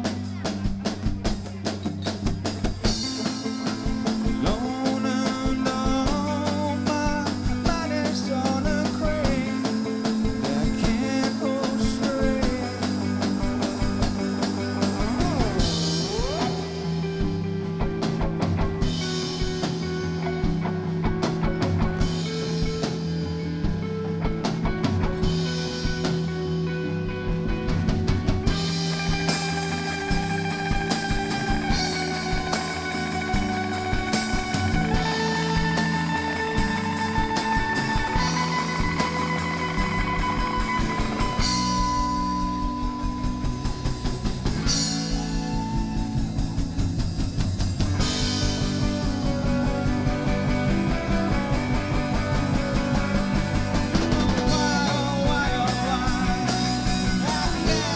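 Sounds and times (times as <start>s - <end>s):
rock band playing guitars: 0.0s - 57.9s.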